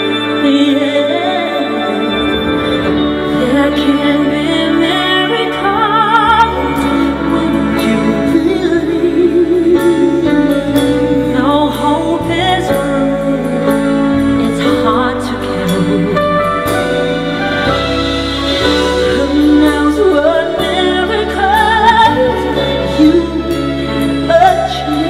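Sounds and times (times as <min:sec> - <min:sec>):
woman and man singing duet: 0:00.0 - 0:17.2, 0:18.9 - 0:25.0
band playing pop ballad: 0:00.0 - 0:25.0.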